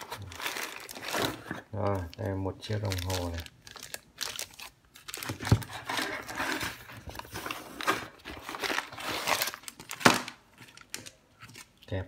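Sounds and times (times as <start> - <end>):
plastic and cardboard crinkling: 0.0 - 12.0.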